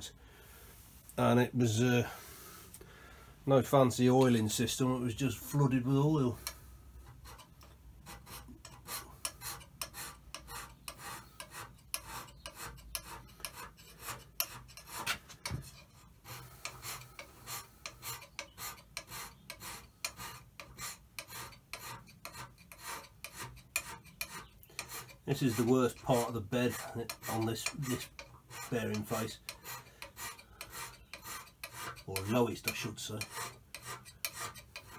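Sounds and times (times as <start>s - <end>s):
hand scraper rasping on metal: 5.5s - 34.9s.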